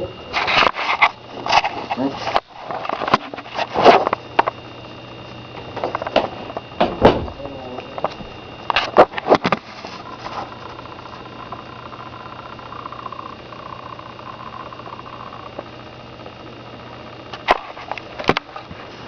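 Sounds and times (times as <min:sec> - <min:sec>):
low hum: 0:00.0 - 0:18.9
high whine: 0:00.0 - 0:19.0.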